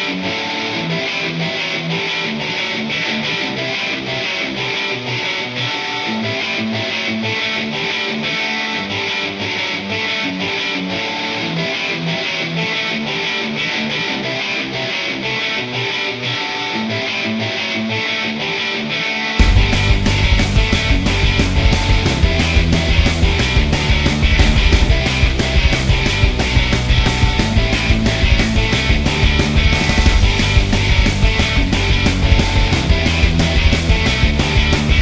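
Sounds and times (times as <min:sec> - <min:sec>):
distorted electric guitar music: 0:00.0 - 0:35.0.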